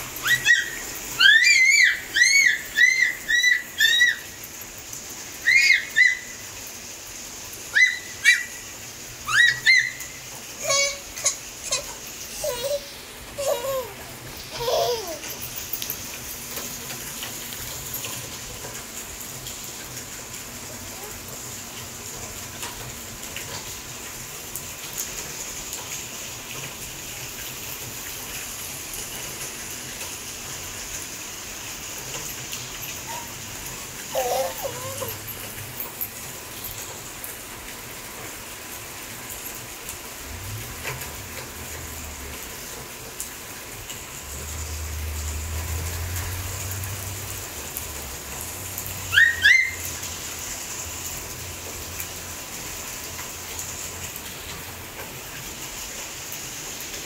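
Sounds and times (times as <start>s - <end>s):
light rain hissing: 0.0s - 57.0s.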